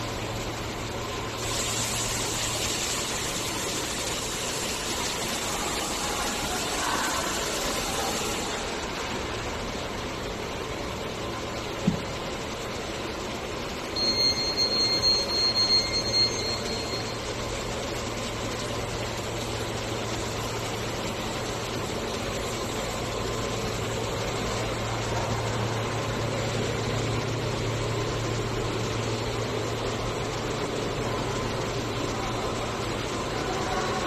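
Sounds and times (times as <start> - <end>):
factory machinery hum and hiss: 0.0 - 34.0
high thin pulsing whine: 0.0 - 34.0.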